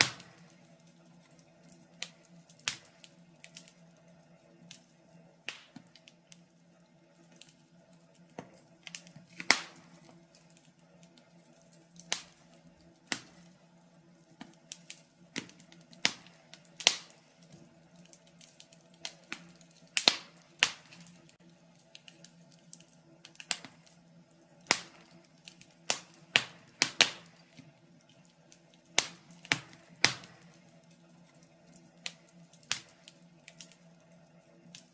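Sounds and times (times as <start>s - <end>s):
faint steady hum: 0.0s - 34.9s
wood fire crackling and popping: 0.0s - 34.9s.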